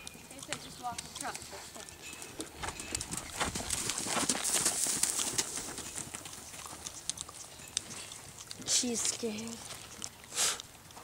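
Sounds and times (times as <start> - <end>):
horse hoofbeats trotting on dirt: 0.0 - 11.0.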